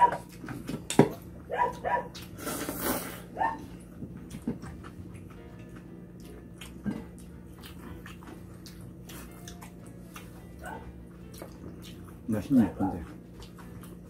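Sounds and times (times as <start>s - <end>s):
chewing and mouth noises: 0.0s - 14.0s
steady low hum: 0.0s - 14.0s.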